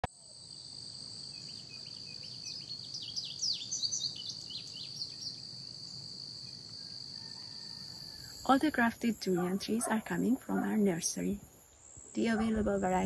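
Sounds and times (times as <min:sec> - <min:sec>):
insect chorus drone: 0:00.0 - 0:13.0
bird chirping: 0:01.2 - 0:13.0.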